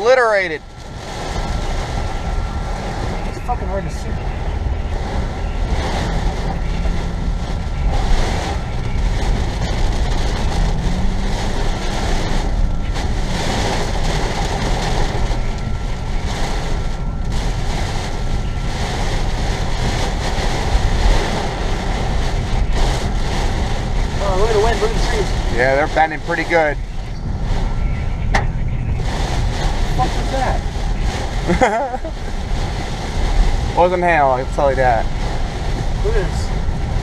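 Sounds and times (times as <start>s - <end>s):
car road noise: 0.0s - 37.0s
gusting wind: 0.0s - 37.0s
heavy rain on car: 0.0s - 37.0s.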